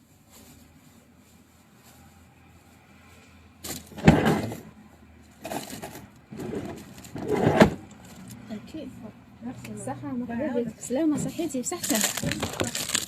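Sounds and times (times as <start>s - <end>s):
rustling and handling noise: 0.0s - 8.5s, 10.7s - 13.0s.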